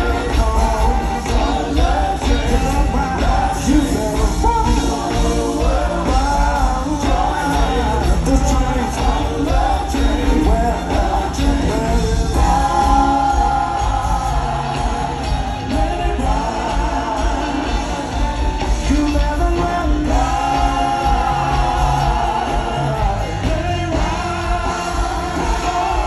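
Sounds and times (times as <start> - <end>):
soul music with singing: 0.0 - 26.0
steady bass line: 0.0 - 26.0.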